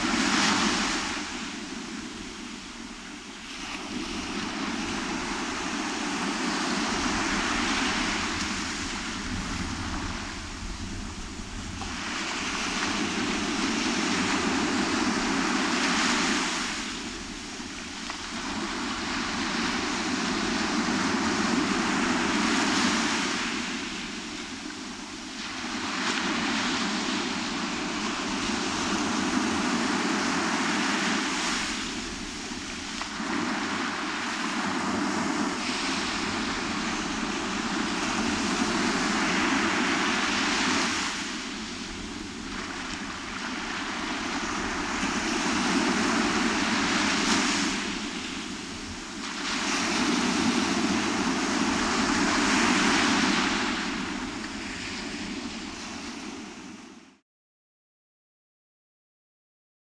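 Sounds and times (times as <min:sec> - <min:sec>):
small surf breaking on sand: 0:00.0 - 0:56.7.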